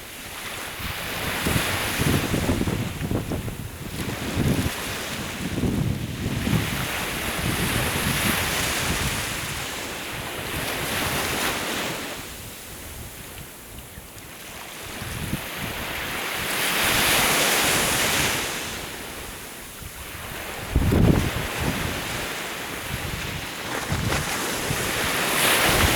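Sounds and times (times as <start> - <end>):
sea waves washing onto shore: 0.0 - 25.9
wind gusts on microphone: 0.0 - 25.9.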